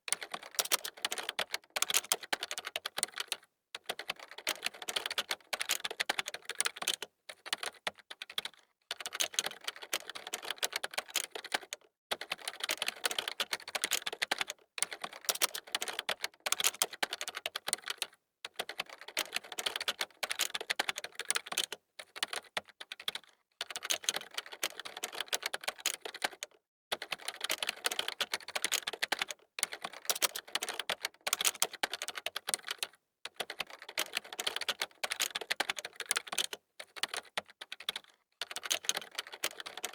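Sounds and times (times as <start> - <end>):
computer keyboard typing: 0.1 - 39.9.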